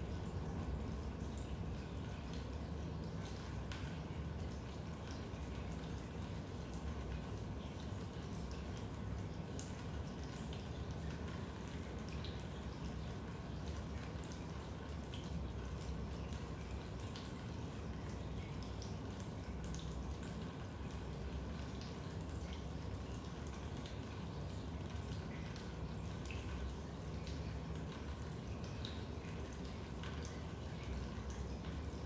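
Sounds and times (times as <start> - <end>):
raindrops dripping: 0.0 - 32.0.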